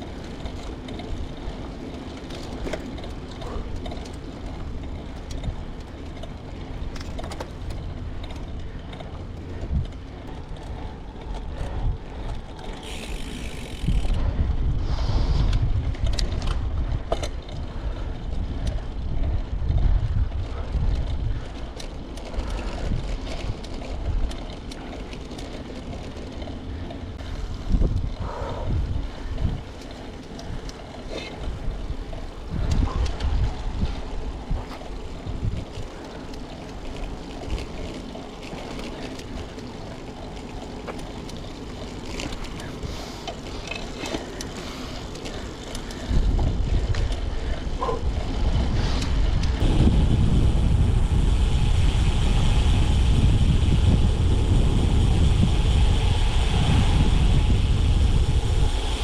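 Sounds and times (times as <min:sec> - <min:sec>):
wind rumbling on microphone: 0:00.0 - 0:59.0.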